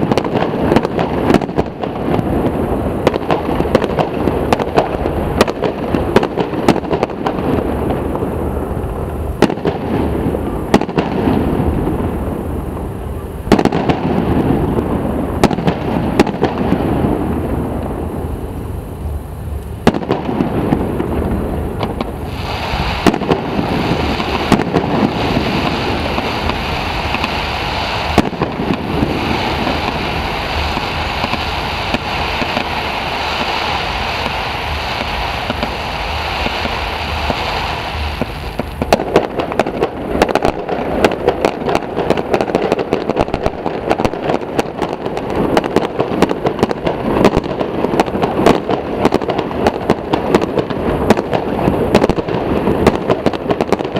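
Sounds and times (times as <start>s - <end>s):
fireworks bangs: 0.0s - 53.9s
fireworks fizzing and crackling: 0.0s - 53.9s.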